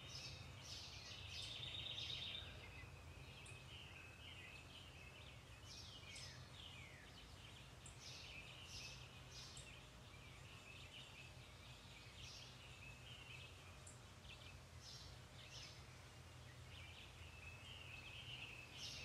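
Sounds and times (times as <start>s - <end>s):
faint birds chirping: 0.0s - 19.0s
low steady hum: 0.0s - 19.0s.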